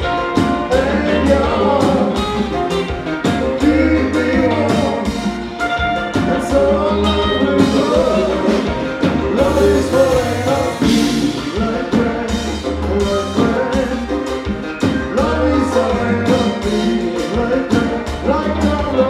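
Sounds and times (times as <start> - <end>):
drums: 0.0 - 19.0
electric guitar: 0.0 - 19.0
keyboards: 0.0 - 19.0
man singing into microphone: 0.4 - 5.4, 6.1 - 19.0.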